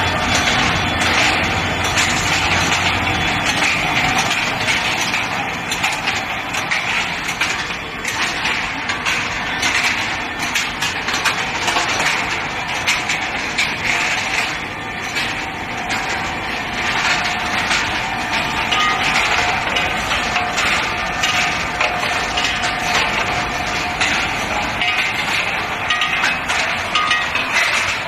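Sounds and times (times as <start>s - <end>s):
industrial machine noise: 0.0s - 28.0s
metal clanks and clicks: 0.0s - 28.0s.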